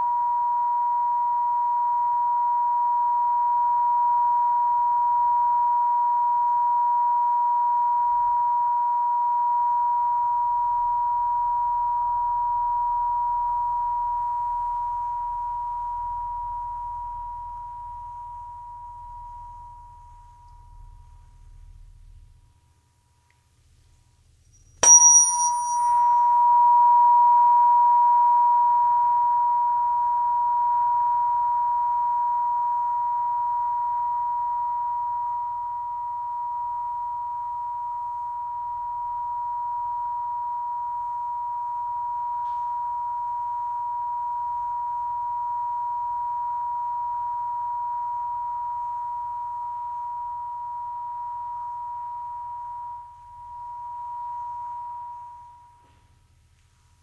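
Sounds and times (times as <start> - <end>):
pure ringing tone: 0.0 - 21.9, 24.5 - 56.1
tuning fork strike: 0.0 - 22.4, 24.4 - 56.1.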